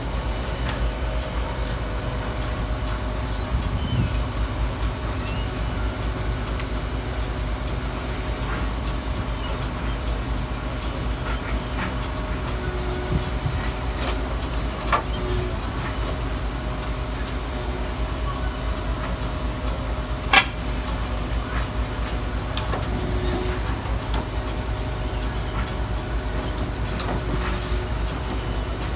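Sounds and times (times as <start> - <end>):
truck engine rumbling: 0.0 - 28.9.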